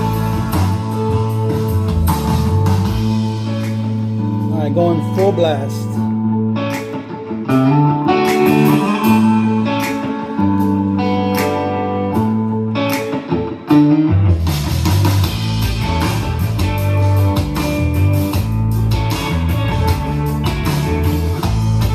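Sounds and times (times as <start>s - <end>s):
guitar music through a speaker: 0.0s - 21.9s.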